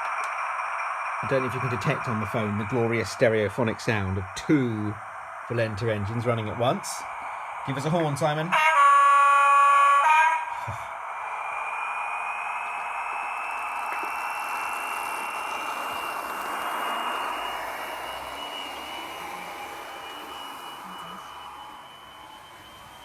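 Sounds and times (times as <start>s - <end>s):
model train engine sound from speakers: 0.0s - 23.0s.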